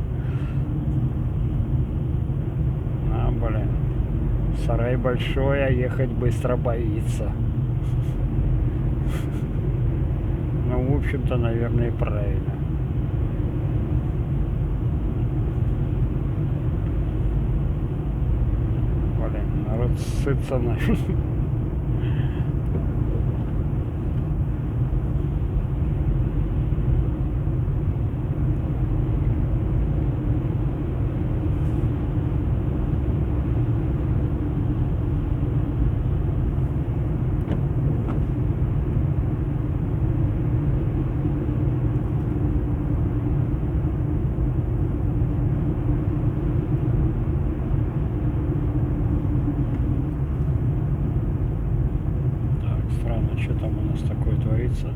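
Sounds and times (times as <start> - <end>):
car engine low rumble: 0.0 - 54.9.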